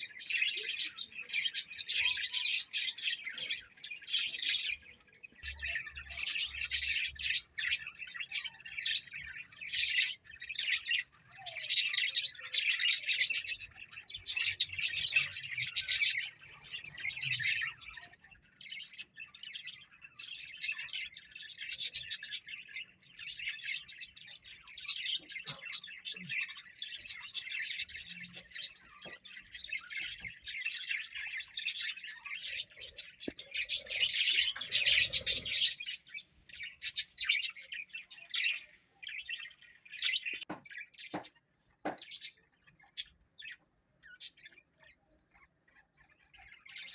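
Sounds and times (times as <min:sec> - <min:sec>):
parrot chirping and twittering: 0:00.0 - 0:46.9.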